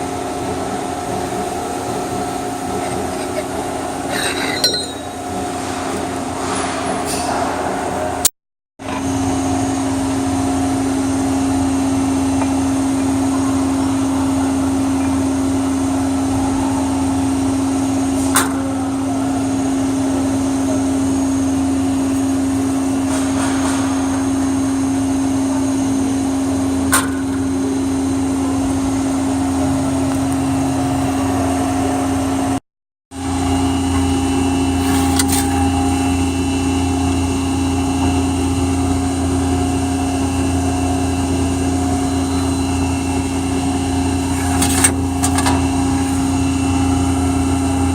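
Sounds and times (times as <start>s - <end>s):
punch press machine hum: 0.0s - 47.9s.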